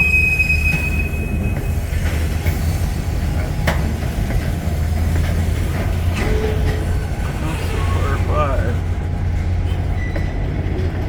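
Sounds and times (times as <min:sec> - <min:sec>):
train wheel squeal: 0:00.0 - 0:08.0, 0:09.6 - 0:10.9
low diesel engine rumble: 0:00.1 - 0:11.0.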